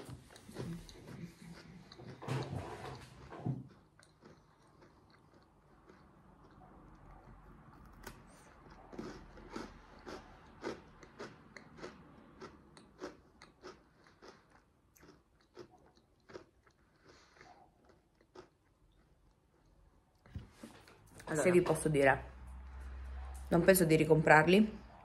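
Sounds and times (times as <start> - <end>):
person chewing biscuit: 0.0 - 20.3.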